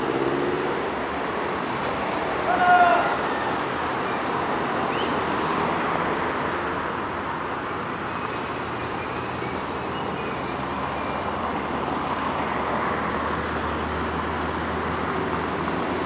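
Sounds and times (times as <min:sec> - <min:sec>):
broad wash of noise: 0:00.0 - 0:16.0.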